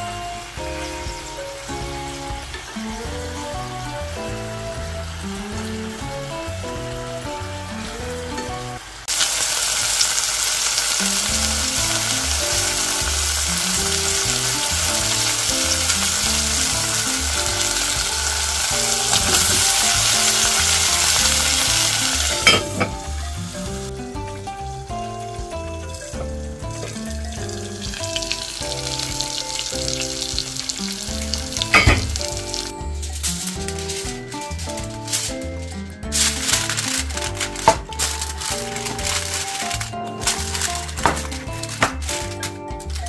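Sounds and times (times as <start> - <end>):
light background music: 0.0 - 9.2, 10.4 - 43.0
meat sizzling in hot oil: 0.0 - 43.0.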